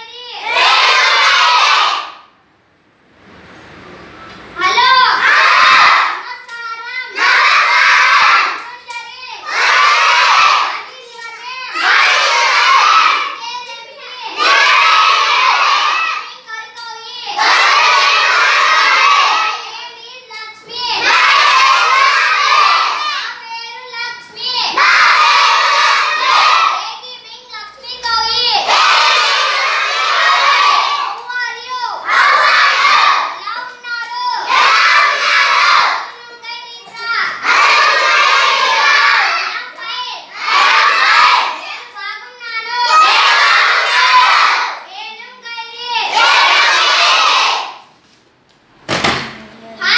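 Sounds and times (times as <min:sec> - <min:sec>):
children shouting in unison: 0:00.0 - 0:02.3, 0:04.6 - 0:23.6, 0:24.4 - 0:27.1, 0:27.8 - 0:47.8.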